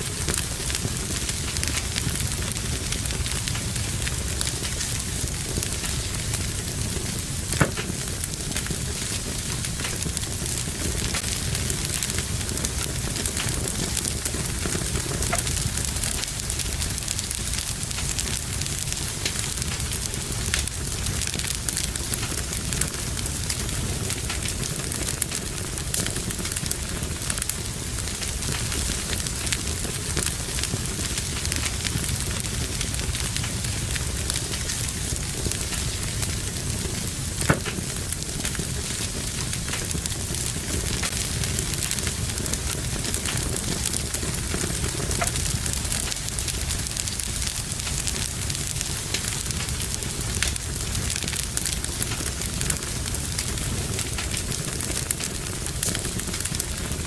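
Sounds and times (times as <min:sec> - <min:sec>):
burning logs crackling and popping: 0:00.0 - 0:57.0
low rumble of flames: 0:00.0 - 0:57.0.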